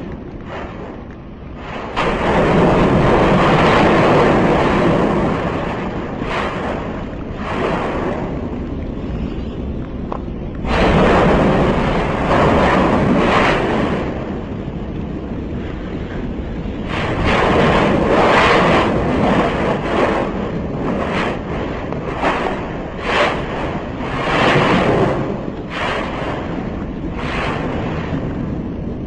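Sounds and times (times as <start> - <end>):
volcanic vent roaring: 0.0 - 29.0.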